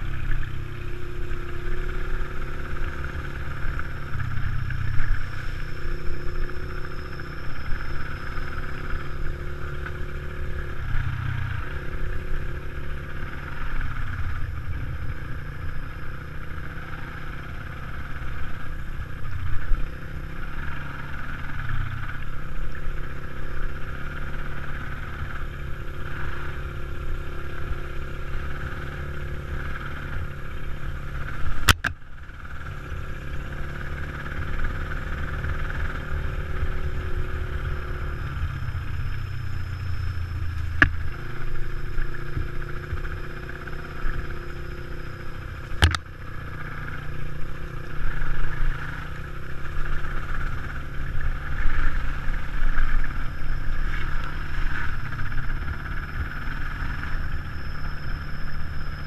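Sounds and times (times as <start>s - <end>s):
dirt bike engine: 0.0s - 59.0s.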